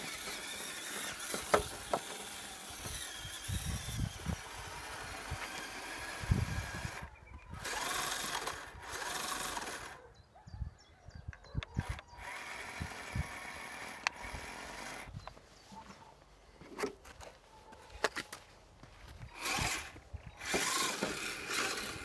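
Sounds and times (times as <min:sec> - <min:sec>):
electric motor and gears whirring: 0:00.0 - 0:10.2, 0:11.3 - 0:15.9, 0:18.0 - 0:22.0.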